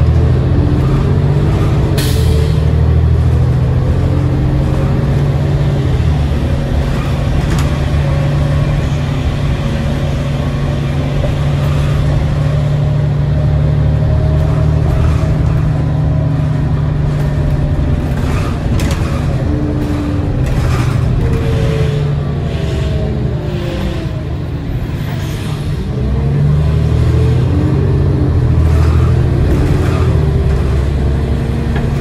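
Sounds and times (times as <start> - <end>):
bus diesel engine drone: 0.0 - 32.0
road noise: 0.0 - 32.0.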